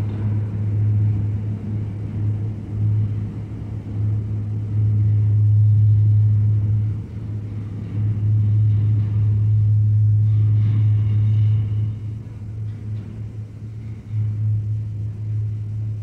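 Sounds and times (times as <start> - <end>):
subway tunnel hum and rumble: 0.0 - 16.0.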